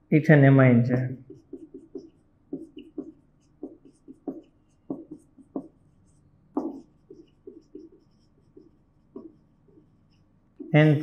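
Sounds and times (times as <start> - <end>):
marker writing on whiteboard: 0.9 - 11.0.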